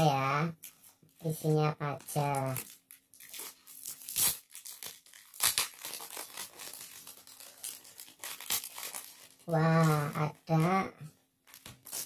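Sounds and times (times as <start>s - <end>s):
plastic bag crinkling: 1.9s - 12.0s
sharp plastic crackles: 2.0s - 12.0s.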